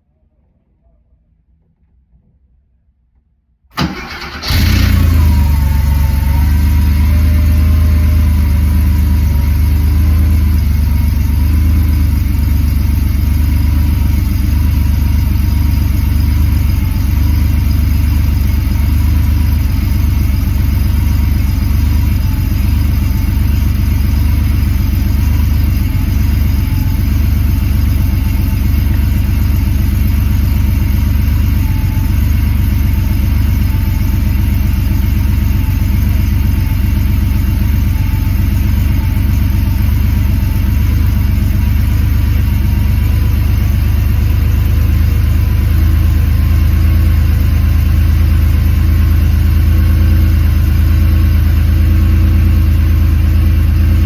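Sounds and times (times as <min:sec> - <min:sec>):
car engine starting and idling: 0:03.7 - 0:54.0.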